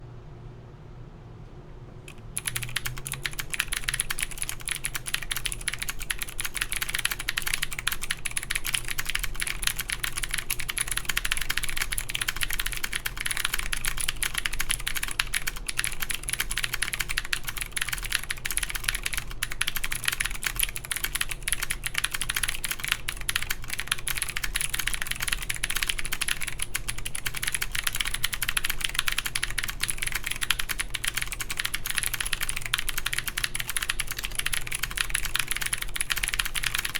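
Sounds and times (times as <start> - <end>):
fast clicky keyboard typing: 2.1 - 36.9.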